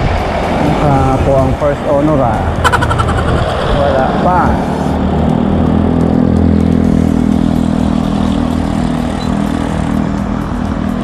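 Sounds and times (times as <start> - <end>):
wind rush: 0.0 - 9.0
vehicle engine humming: 0.0 - 11.0.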